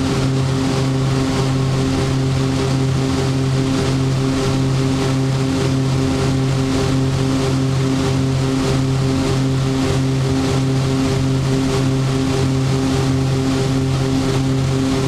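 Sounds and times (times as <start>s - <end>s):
turboprop propeller drone: 0.0s - 15.0s.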